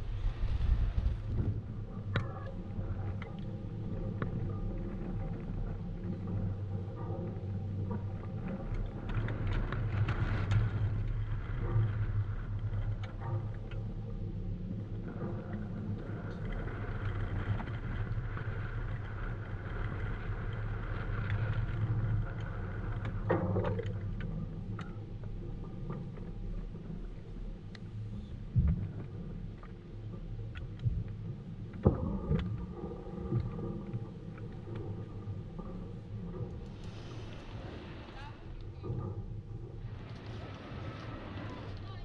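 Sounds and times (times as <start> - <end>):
low outdoor rumble: 0.0 - 42.0.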